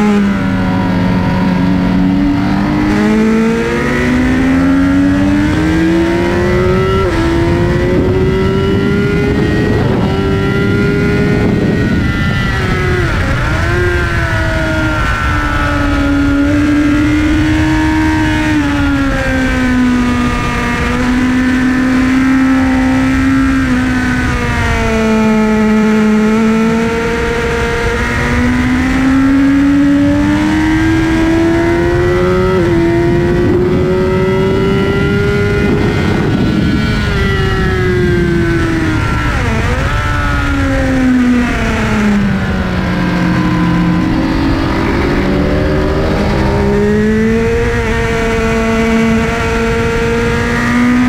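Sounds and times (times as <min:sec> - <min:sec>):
motorcycle engine accelerating: 0:00.0 - 0:51.0
wind rush on microphone: 0:00.0 - 0:51.0.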